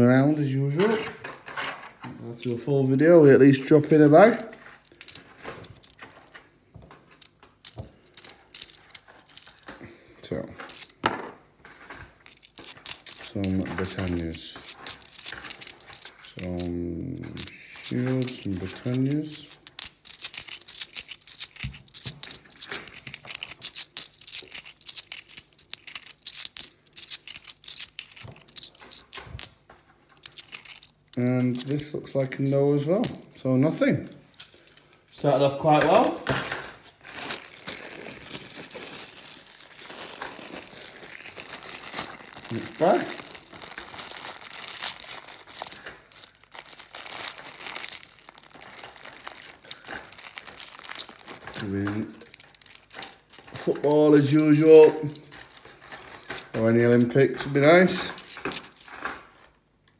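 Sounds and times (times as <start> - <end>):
coins clinking: 3.6 - 6.4, 7.1 - 9.8, 10.6 - 59.4.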